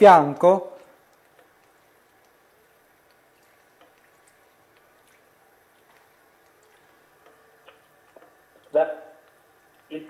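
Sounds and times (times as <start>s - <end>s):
oil bubbling gently in a pan: 0.0s - 10.0s
small crackles: 0.7s - 10.0s.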